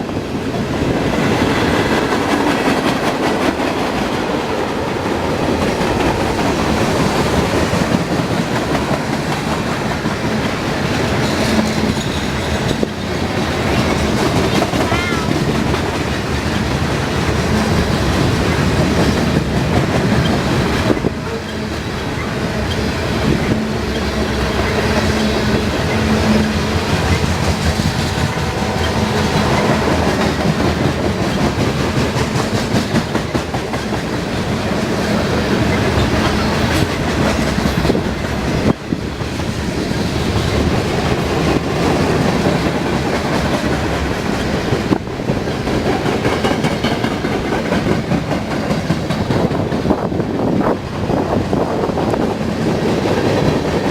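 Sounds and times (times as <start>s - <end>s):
railroad cars rolling past: 0.0s - 53.9s
wheels clicking over rail joints: 0.6s - 53.9s.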